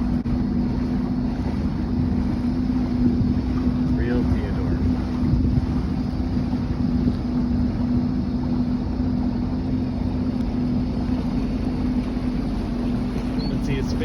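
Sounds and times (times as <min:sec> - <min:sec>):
boat engine running: 0:00.0 - 0:14.0
wind on microphone: 0:00.0 - 0:14.0.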